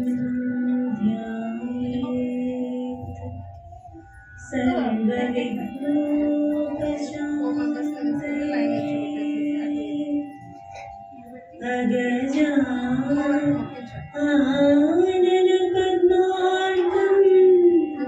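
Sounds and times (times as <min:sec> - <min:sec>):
musical accompaniment: 0:00.0 - 0:18.0
woman singing slow song: 0:00.0 - 0:18.0.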